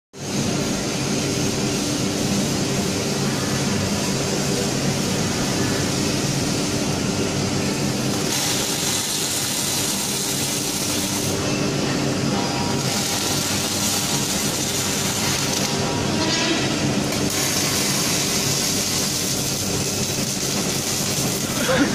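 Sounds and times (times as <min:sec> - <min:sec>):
steady mechanical drone: 0:00.2 - 0:21.9
welding arc hiss and crackle: 0:00.2 - 0:21.9.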